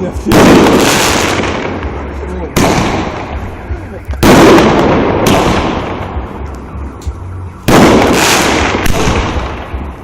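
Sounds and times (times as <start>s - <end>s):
fireworks bursting with crackling: 0.0s - 10.0s.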